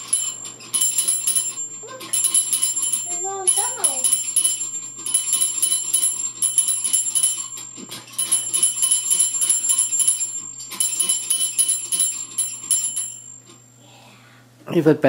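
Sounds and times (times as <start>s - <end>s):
small metal bell ringing: 0.0s - 13.5s.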